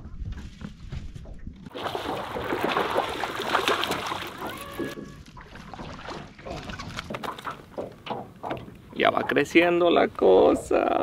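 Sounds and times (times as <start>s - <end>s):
water splashing and sloshing: 0.4s - 11.0s.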